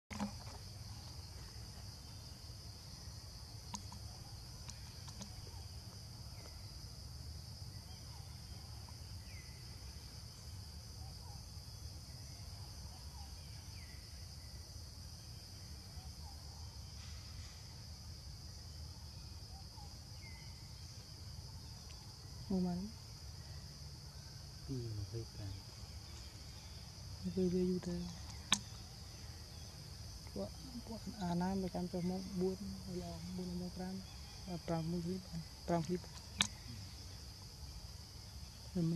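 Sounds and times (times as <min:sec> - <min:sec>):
insects droning: 0:00.1 - 0:38.9.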